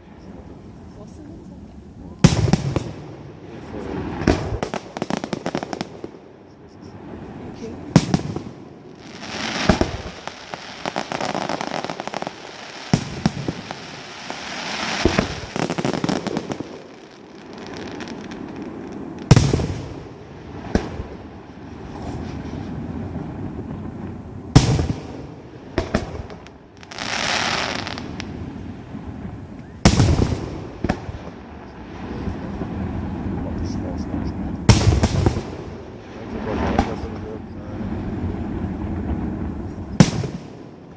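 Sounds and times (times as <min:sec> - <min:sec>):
firework crackling: 0:00.0 - 0:40.9.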